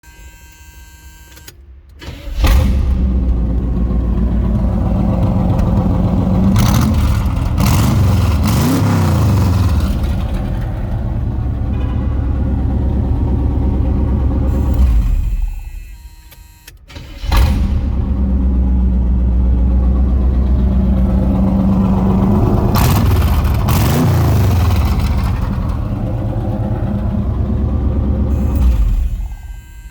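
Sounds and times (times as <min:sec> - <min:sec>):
car engine starting and idling: 0:01.3 - 0:29.9
engine revving: 0:02.3 - 0:15.6, 0:16.9 - 0:29.9.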